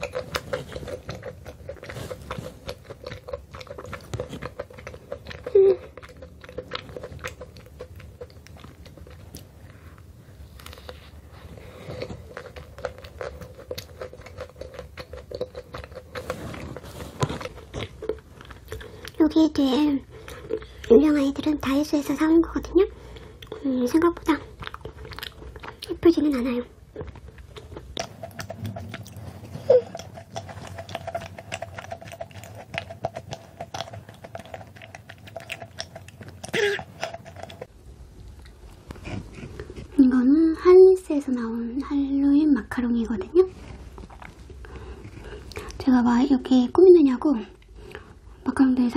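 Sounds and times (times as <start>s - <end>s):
chewing crisp macaron: 0.0s - 46.8s.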